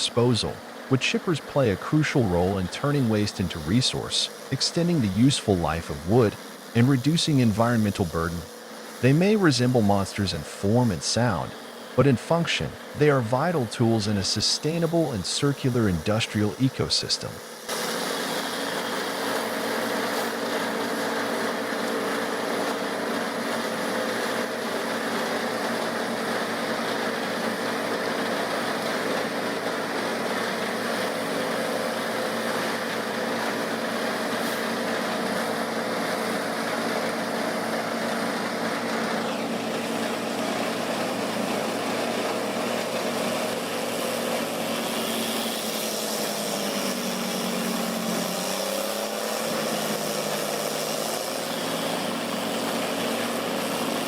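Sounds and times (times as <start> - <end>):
wood chipper engine running: 0.0 - 54.0.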